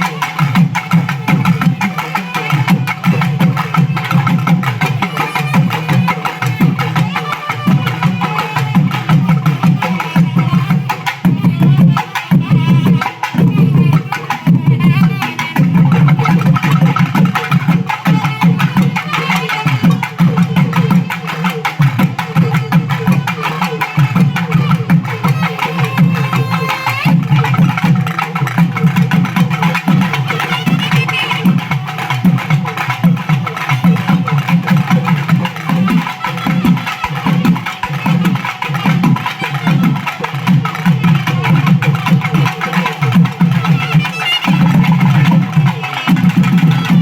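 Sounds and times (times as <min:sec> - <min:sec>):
fast dense drumming: 0:00.0 - 0:47.0.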